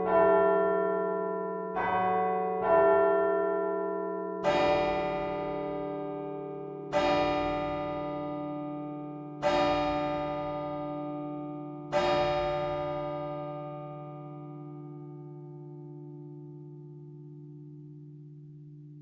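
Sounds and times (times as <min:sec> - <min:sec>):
church bell strokes: 0:00.0 - 0:16.8.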